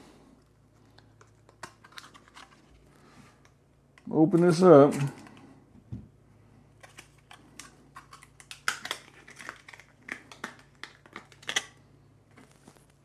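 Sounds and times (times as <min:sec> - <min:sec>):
faint packaging crinkling: 0:00.4 - 0:05.6, 0:06.6 - 0:13.0.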